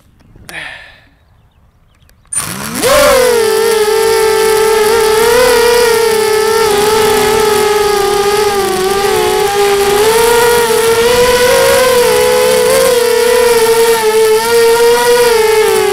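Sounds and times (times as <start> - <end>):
quadcopter motors whining: 1.9 - 15.9.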